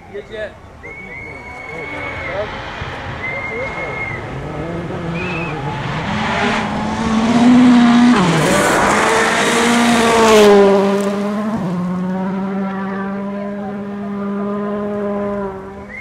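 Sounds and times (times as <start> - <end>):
rally car engine revving: 1.7 - 16.0.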